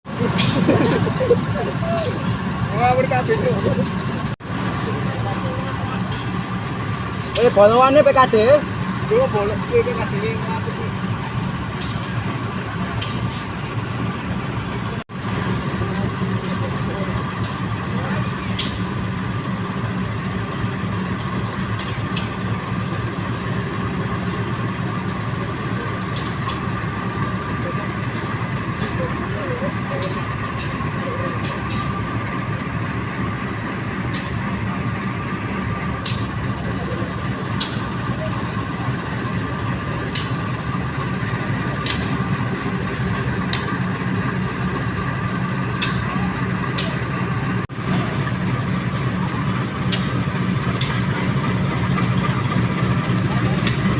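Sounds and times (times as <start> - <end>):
diesel locomotive engine humming: 0.0 - 53.9.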